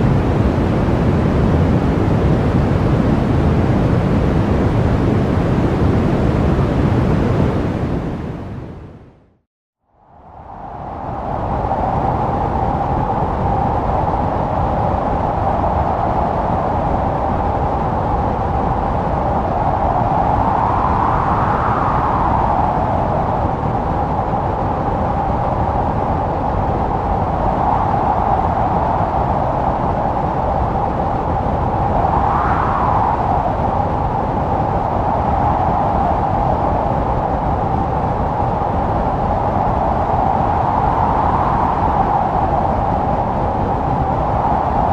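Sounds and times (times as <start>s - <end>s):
blizzard wind howling and whistling: 0.0s - 44.9s.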